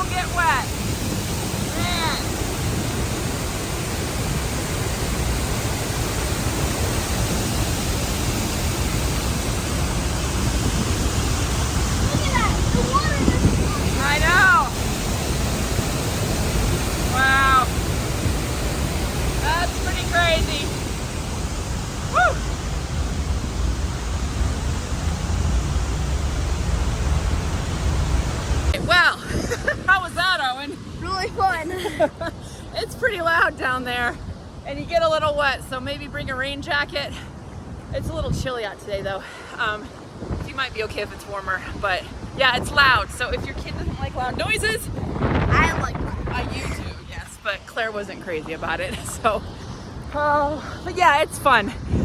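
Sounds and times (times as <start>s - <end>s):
water roaring over spillway: 0.0s - 52.0s.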